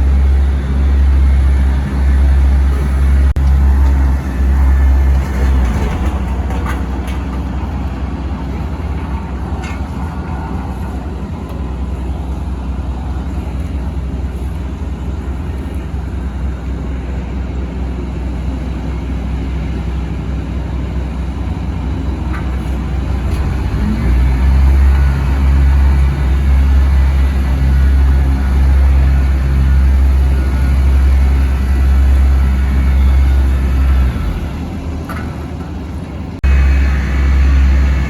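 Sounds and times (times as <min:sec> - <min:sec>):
road roller engine running: 0:00.0 - 0:38.0.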